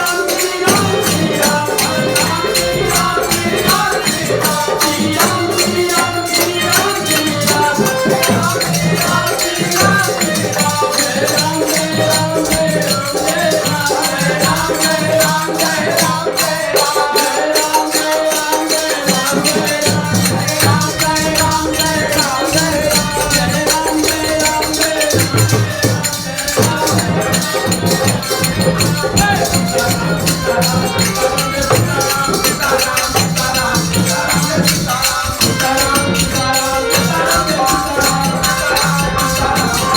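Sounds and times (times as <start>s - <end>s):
jingling hand percussion: 0.0s - 39.9s
person singing devotional melody: 0.0s - 39.9s.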